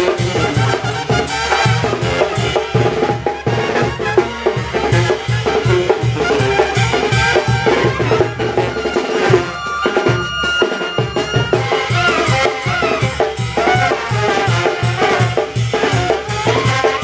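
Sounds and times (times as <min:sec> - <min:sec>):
bass drum snare and cymbal beat: 0:00.0 - 0:17.0
brass band playing dance tune: 0:00.0 - 0:17.0
trumpets playing melody: 0:00.0 - 0:17.0
tuba: 0:00.0 - 0:17.0.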